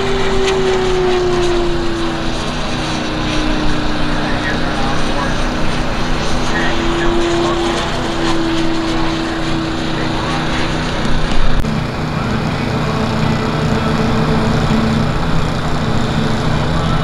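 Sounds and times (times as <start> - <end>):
model airplane engine droning: 0.0 - 17.0.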